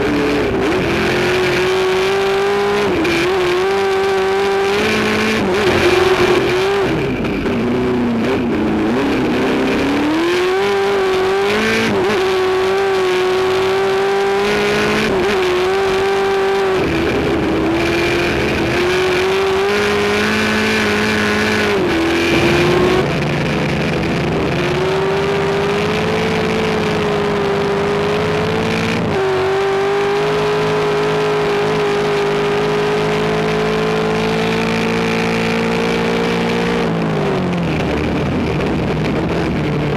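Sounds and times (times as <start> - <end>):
race car engine revving: 0.0 - 37.3.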